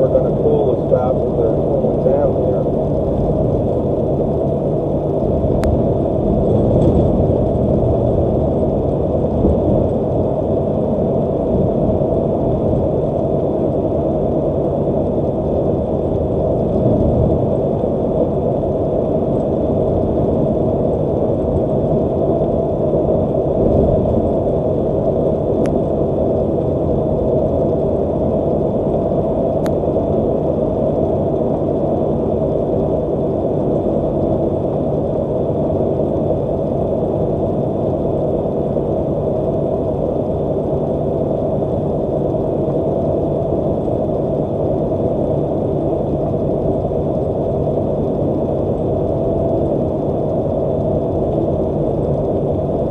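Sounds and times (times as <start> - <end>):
truck cab road and engine rumble: 0.0 - 52.9.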